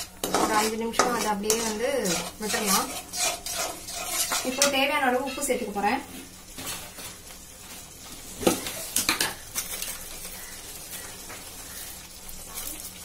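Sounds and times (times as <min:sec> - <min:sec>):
paste sizzling and bubbling: 0:00.0 - 0:13.0.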